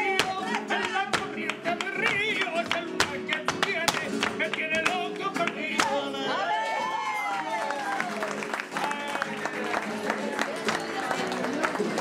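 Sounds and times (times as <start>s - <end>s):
flamenco guitar music: 0.0s - 12.0s.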